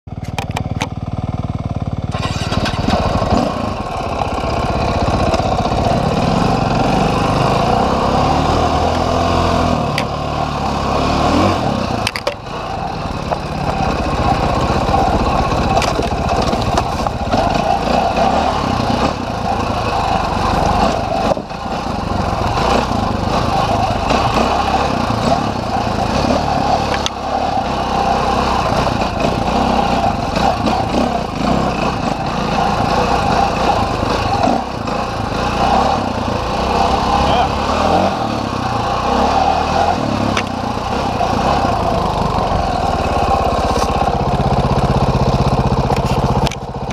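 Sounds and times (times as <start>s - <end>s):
dirt bike engine revving: 1.0s - 46.9s.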